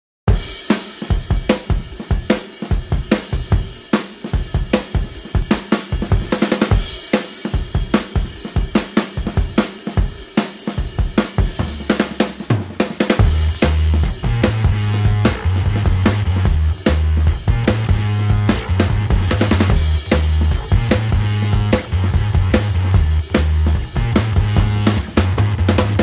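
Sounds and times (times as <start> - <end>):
drum kit beat: 0.3 - 26.0.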